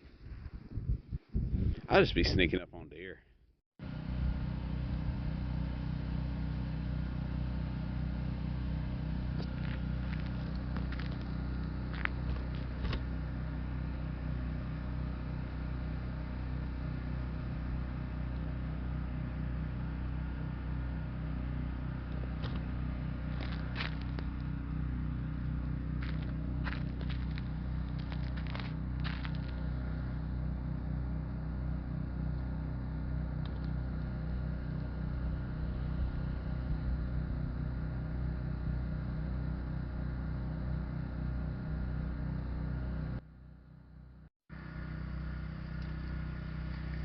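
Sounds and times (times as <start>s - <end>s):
vehicle engine humming: 3.8s - 47.0s.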